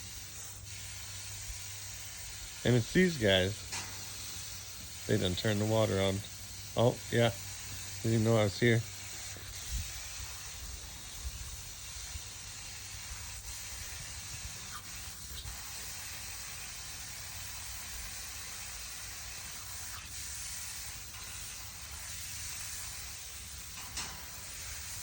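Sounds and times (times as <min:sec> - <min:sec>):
water running and spraying: 0:00.0 - 0:25.0.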